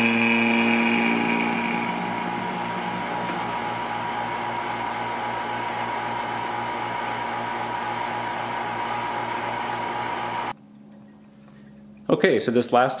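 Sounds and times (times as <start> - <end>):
vacuum pump humming and whining: 0.0 - 10.6.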